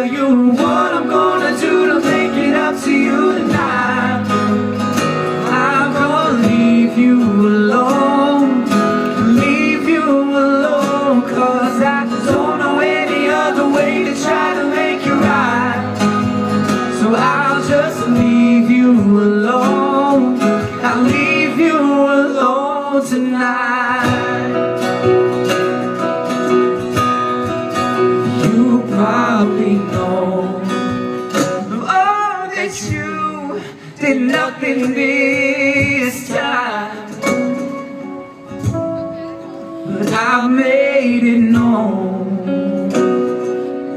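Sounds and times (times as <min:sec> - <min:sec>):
man singing: 0:00.0 - 0:25.0, 0:28.0 - 0:38.0, 0:39.8 - 0:43.9
drums: 0:00.0 - 0:43.9
keyboard: 0:00.0 - 0:43.9
strummed acoustic guitar: 0:00.0 - 0:43.9.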